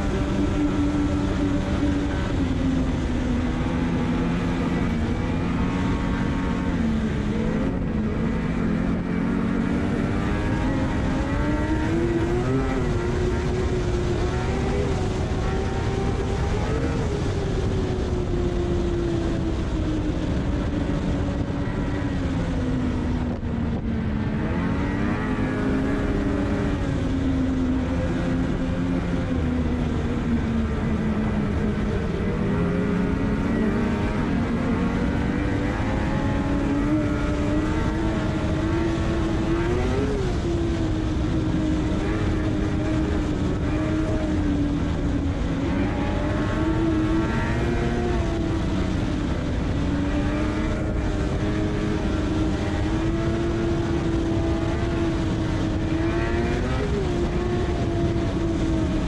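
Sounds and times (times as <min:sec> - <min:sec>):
snowmobile engine running: 0:00.0 - 0:59.0
steady rush of noise: 0:00.0 - 0:59.0.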